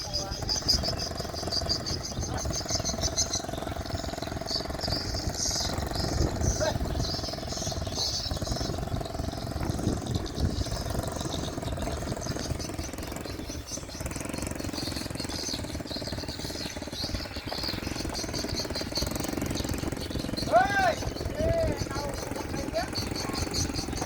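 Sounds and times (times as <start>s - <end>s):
birds chirping: 0.0s - 24.0s
small motorbike engine running: 0.0s - 24.0s.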